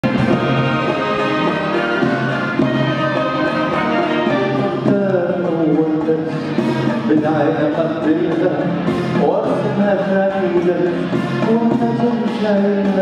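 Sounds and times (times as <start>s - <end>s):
orchestra playing: 0.0s - 13.0s.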